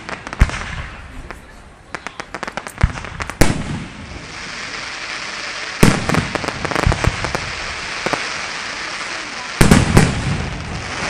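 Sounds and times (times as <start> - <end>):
fireworks bangs and cracks: 0.0 - 11.0
fireworks crackling hiss: 0.0 - 11.0.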